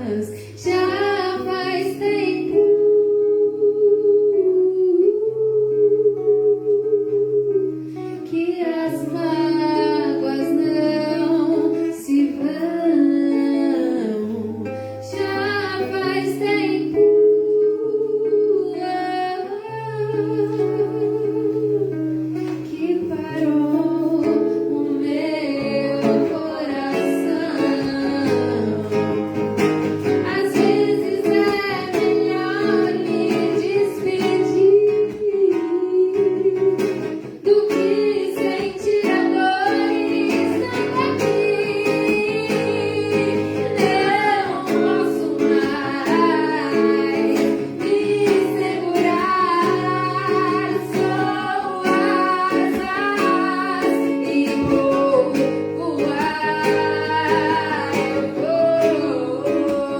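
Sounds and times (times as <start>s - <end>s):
acoustic guitar: 0.0s - 59.9s
person singing: 0.0s - 59.9s.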